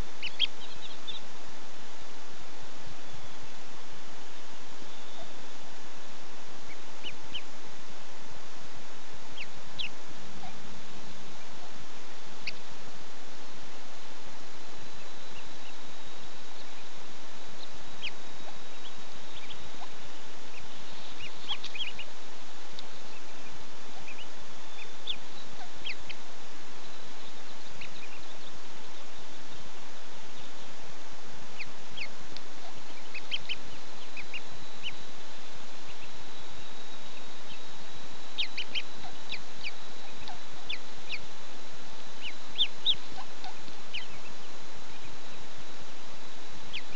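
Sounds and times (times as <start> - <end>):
ducklings peeping: 0.0 - 46.9
faint continuous whine: 0.0 - 46.9
steady hiss: 0.0 - 46.9.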